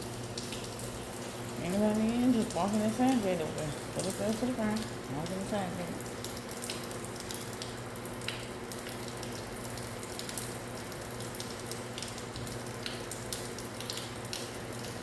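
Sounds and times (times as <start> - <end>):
steady rain pattering: 0.2 - 15.0.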